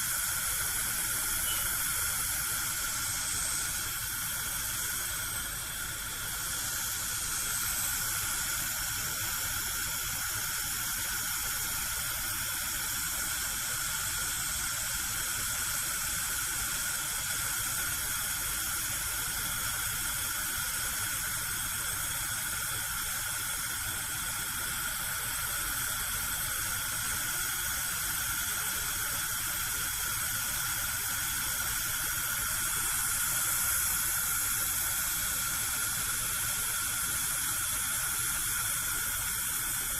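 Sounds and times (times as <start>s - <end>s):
gas burner hissing: 0.0s - 39.9s.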